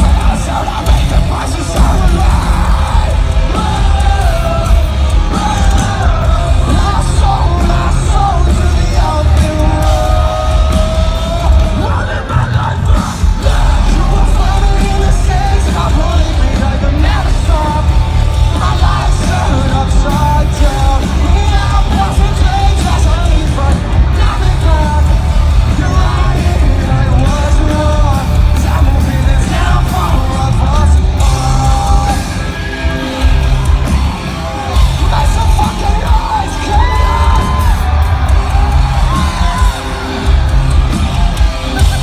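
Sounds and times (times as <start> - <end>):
live rock band playing: 0.0 - 42.0
sung and yelled vocals: 0.0 - 42.0.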